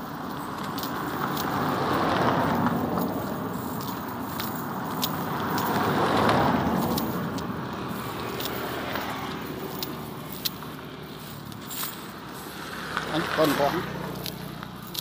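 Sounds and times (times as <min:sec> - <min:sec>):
cast net on gravel: 0:00.0 - 0:15.0
chain sinkers clicking: 0:00.0 - 0:15.0.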